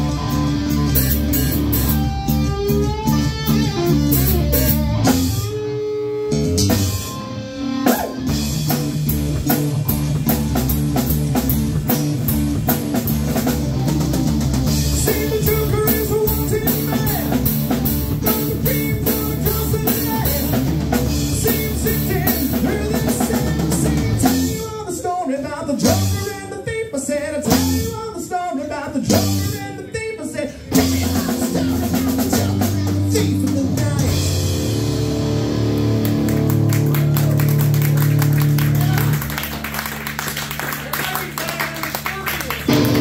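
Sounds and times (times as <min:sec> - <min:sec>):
drum kit beat: 0:00.0 - 0:28.2, 0:29.0 - 0:30.1, 0:30.7 - 0:40.6, 0:41.2 - 0:43.0
bass guitar: 0:00.0 - 0:43.0
electric guitar: 0:00.0 - 0:43.0.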